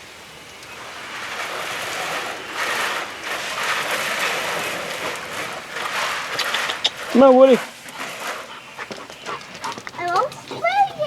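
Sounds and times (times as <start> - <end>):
water spraying and splashing: 0.0 - 11.0.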